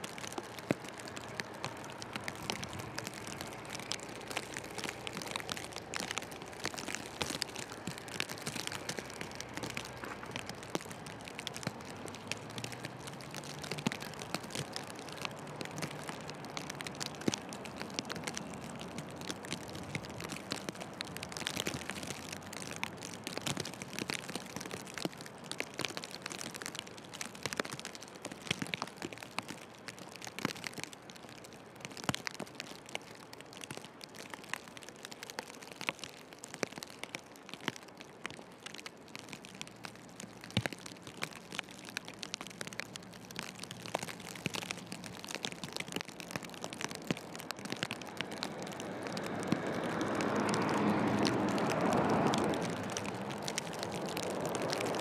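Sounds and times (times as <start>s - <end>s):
snow crunching and crackling: 0.0s - 55.0s.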